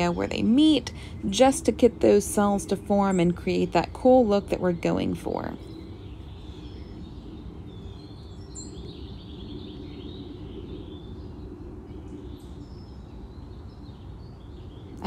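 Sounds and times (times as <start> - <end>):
faint bird chirping: 0.0 - 15.0
low background hum: 0.0 - 15.0.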